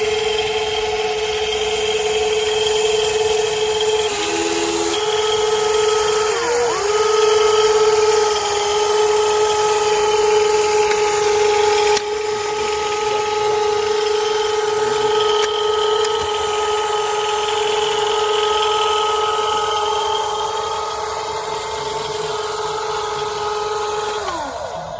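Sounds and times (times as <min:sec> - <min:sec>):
electric motor whine: 0:00.0 - 0:24.9.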